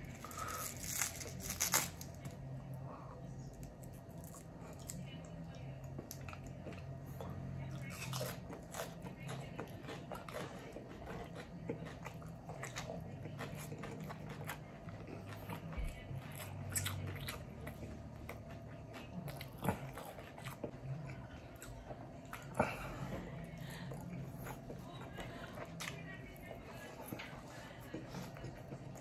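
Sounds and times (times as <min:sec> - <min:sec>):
faint low hum: 0:00.0 - 0:29.0
person chewing food: 0:03.6 - 0:29.0.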